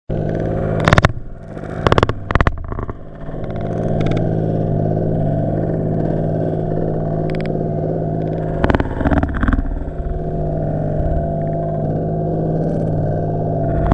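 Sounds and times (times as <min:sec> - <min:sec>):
ice auger motor hum underwater: 0:00.1 - 0:13.9.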